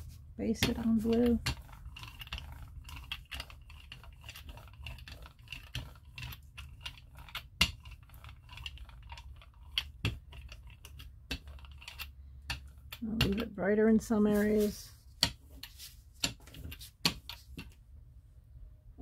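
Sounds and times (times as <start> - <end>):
brayer rolling through sticky paint: 0.0 - 17.8.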